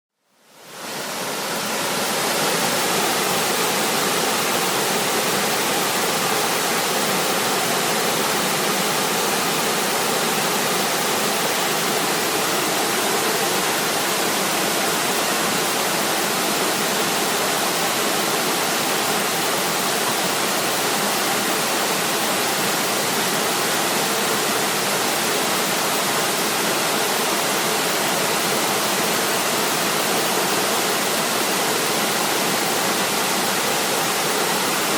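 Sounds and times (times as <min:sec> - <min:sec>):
stream rushing: 0:00.6 - 0:34.9.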